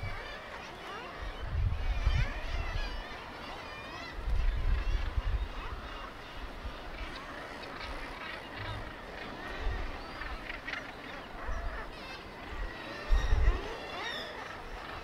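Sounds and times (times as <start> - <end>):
seabirds calling harshly: 0.0 - 15.0.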